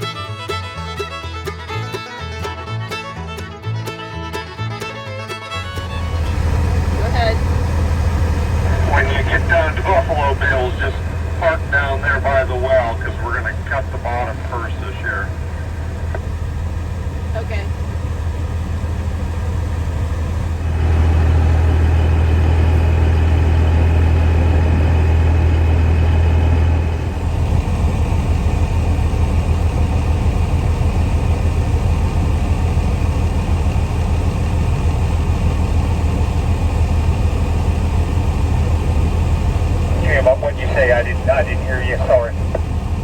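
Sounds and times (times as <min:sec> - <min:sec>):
diesel engine deep hum: 0:00.0 - 0:43.0.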